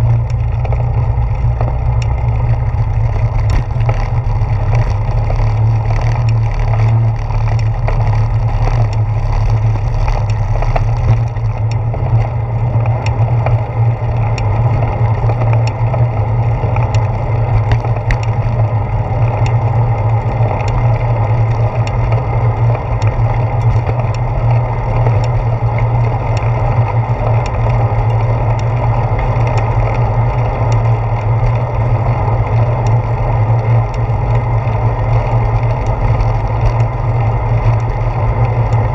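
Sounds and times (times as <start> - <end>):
bicycle rolling rumble: 0.0 - 38.9.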